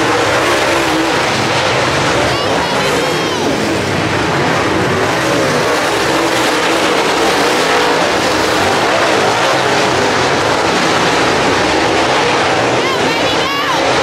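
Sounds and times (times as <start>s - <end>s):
race car engines at speed: 0.0s - 14.0s.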